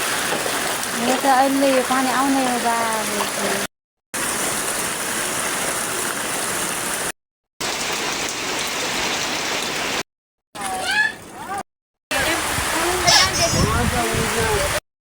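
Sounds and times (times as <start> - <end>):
heavy rain: 0.0 - 10.0, 12.1 - 14.8.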